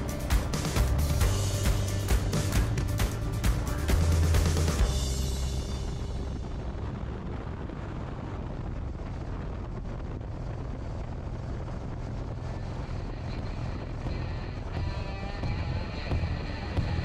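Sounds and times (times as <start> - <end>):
motorcycle engine rumble: 0.0 - 17.0
wind and road noise: 0.0 - 17.0.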